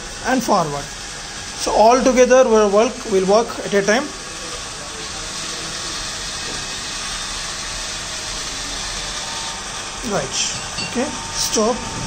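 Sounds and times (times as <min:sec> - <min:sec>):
small gear motors whirring: 0:00.0 - 0:12.0.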